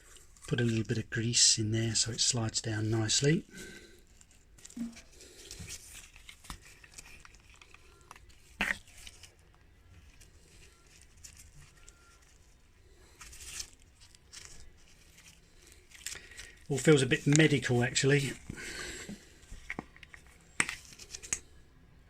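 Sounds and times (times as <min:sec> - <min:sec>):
soft handling rustles: 0:00.0 - 0:22.0.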